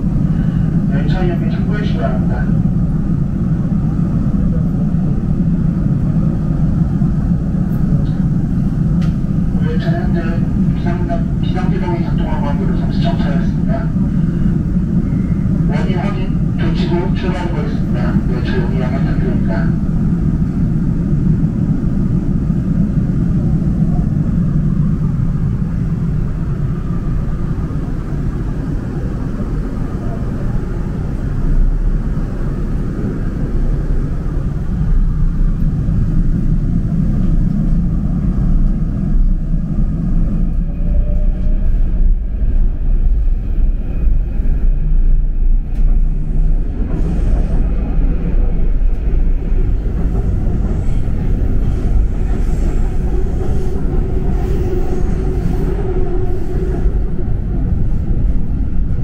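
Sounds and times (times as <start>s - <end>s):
subway train rumble: 0.0s - 59.0s.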